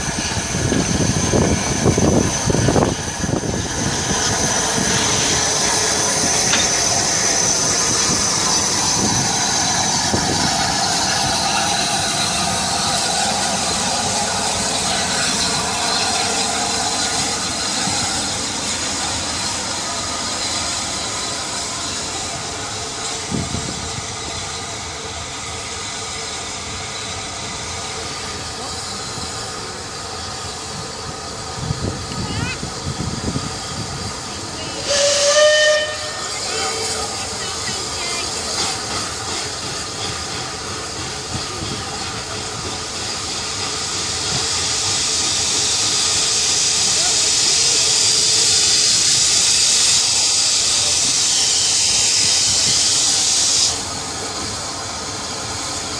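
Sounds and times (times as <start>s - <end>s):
steam locomotive hissing: 0.0s - 55.9s.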